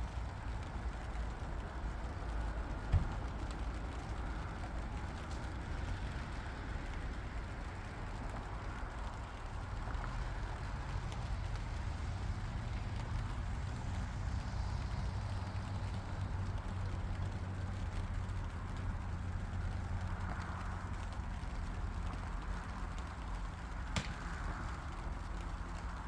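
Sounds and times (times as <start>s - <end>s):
engine running with low rumble: 0.0s - 26.0s.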